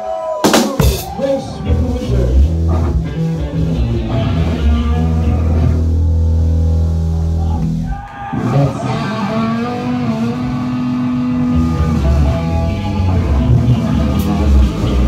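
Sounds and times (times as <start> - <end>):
electric bass and guitar notes: 0.8 - 15.0.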